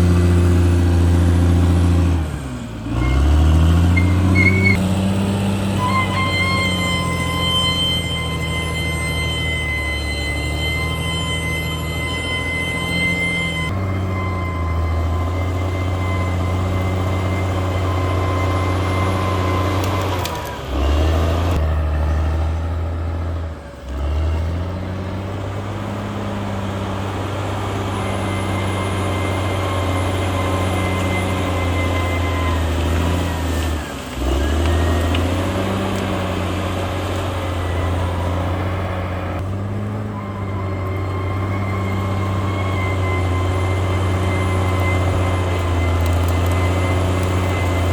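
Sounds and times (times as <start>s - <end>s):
bulldozer diesel engine under load: 0.0s - 47.9s.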